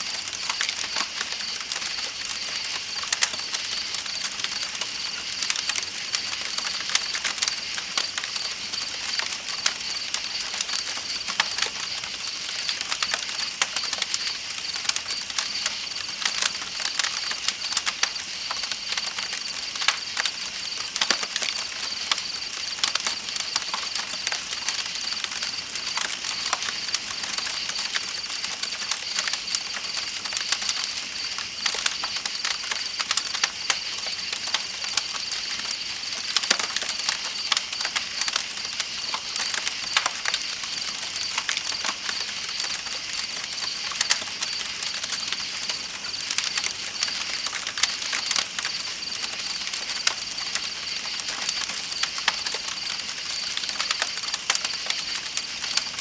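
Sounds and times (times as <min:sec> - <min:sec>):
night insects trilling: 0:00.0 - 0:56.0
campfire crackling and popping: 0:00.1 - 0:56.0.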